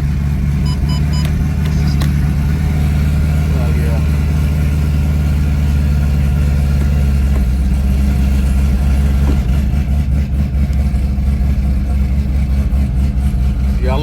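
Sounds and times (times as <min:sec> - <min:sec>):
car engine low drone: 0:00.0 - 0:14.0.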